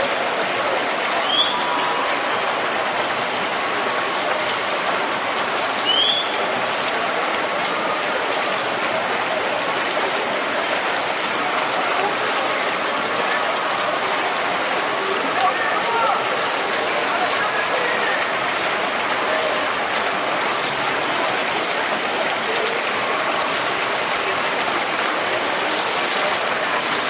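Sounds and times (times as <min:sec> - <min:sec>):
rushing water splashing: 0:00.0 - 0:27.0.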